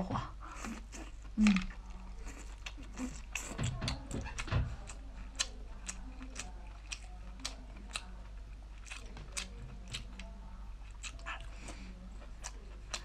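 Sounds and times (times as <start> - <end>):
steady low hum: 0.0 - 13.0
wet chewing and mouth clicks: 0.5 - 13.0.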